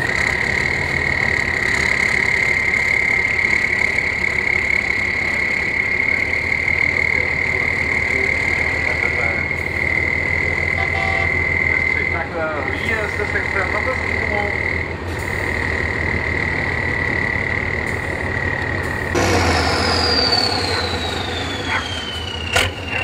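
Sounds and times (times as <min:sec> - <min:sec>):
steady high whine: 0:00.0 - 0:23.0
truck engine labouring: 0:00.0 - 0:23.0.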